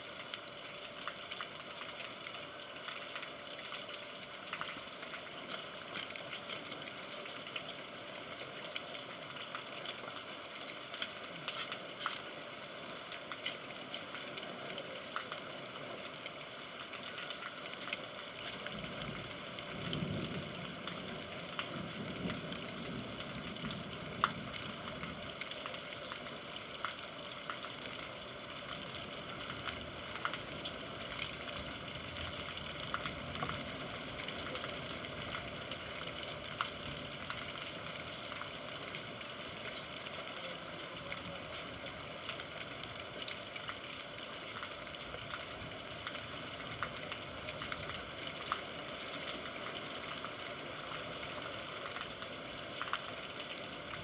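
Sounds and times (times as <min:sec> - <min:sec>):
steady rain hiss: 0:00.0 - 0:54.0
raindrop ticks: 0:00.2 - 0:54.0.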